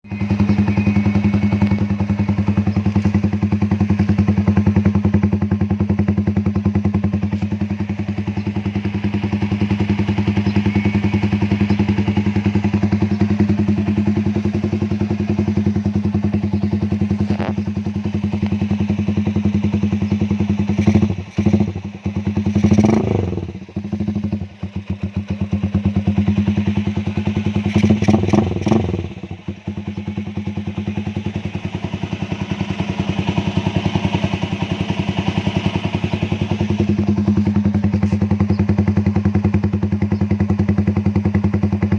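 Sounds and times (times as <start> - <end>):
engine throttle blips: 0.0 - 41.9
motorcycle engine idling: 0.0 - 41.9.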